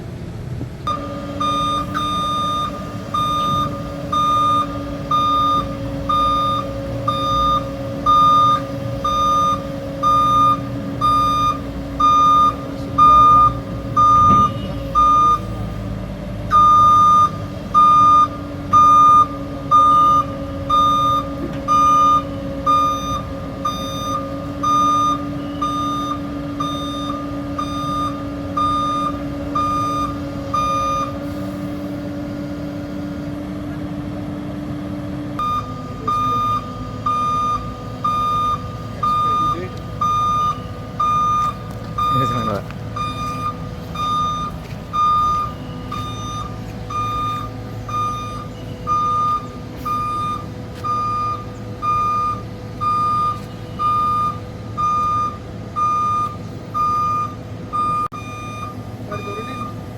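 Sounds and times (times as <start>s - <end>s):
diesel engine running: 0.0s - 59.9s
excavator travel alarm beeping: 0.8s - 34.2s, 35.1s - 59.9s.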